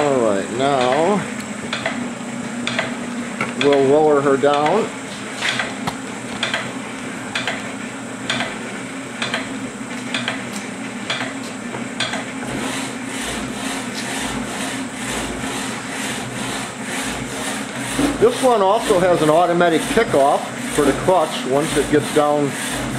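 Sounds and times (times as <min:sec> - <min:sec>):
motor hum: 0:00.0 - 0:22.9.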